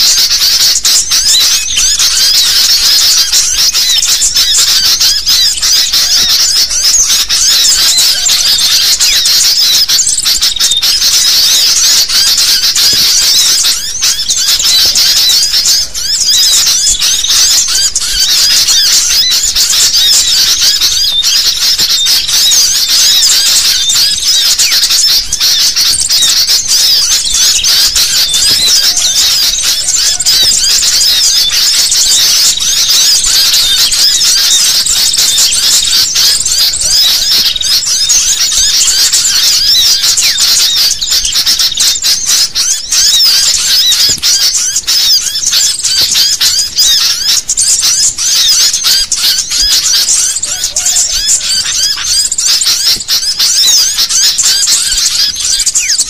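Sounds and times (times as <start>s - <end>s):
flock of birds chattering: 0.0s - 56.0s.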